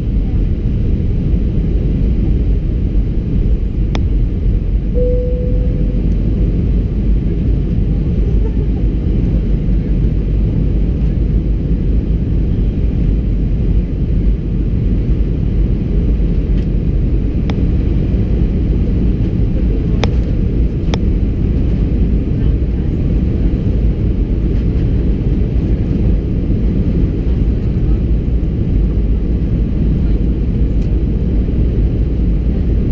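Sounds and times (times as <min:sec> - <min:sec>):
airplane cabin roar: 0:00.0 - 0:32.9.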